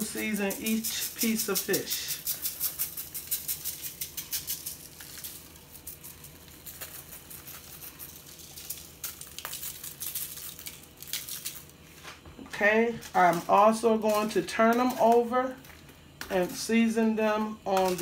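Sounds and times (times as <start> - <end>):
seasoning shaker rattling: 0.0 - 12.0, 12.9 - 18.0.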